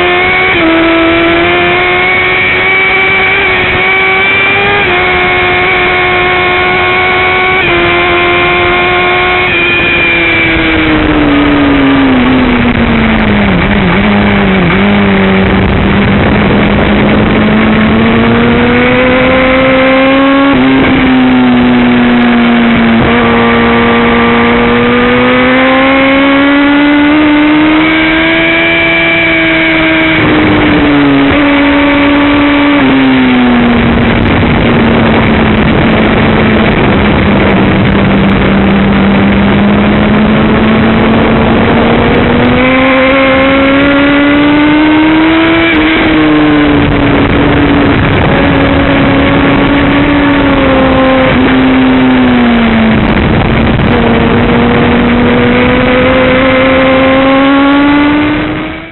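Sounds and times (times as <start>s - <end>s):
motorcycle engine revving: 0.0s - 58.9s
wind rush: 0.0s - 58.9s.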